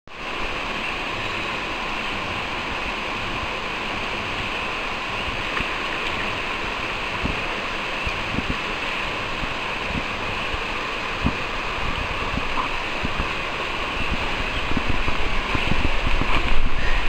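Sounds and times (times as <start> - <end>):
river water rushing: 0.1 - 17.0.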